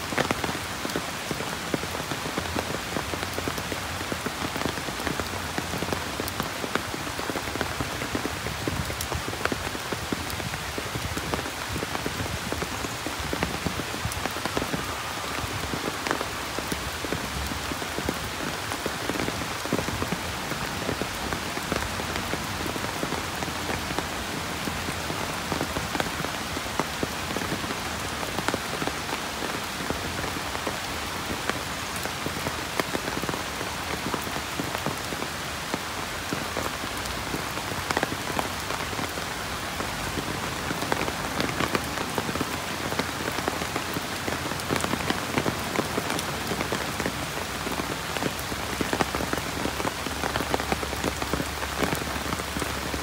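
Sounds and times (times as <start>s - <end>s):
heavy rain hiss: 0.0s - 53.0s
raindrops ticking on hard surfaces: 0.0s - 53.0s.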